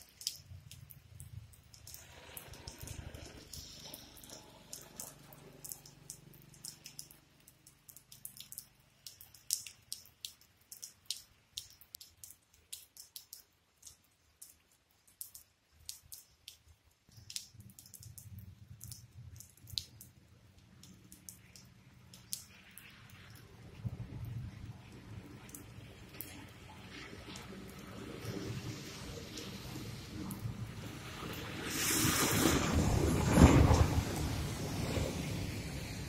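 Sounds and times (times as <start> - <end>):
rainwater dripping onto wet ground: 0.0 - 31.8.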